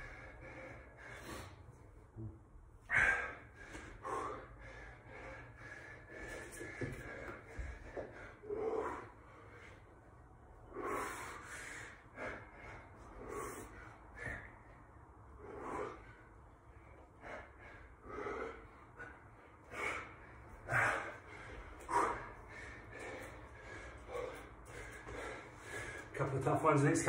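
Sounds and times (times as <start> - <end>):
man breathing hard: 0.0 - 26.4.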